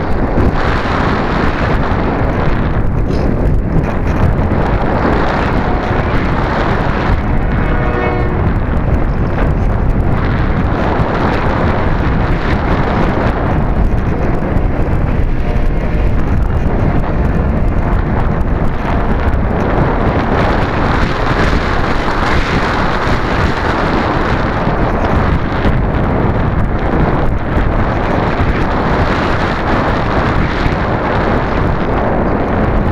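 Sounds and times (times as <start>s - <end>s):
wind rushing over microphone: 0.0s - 32.9s.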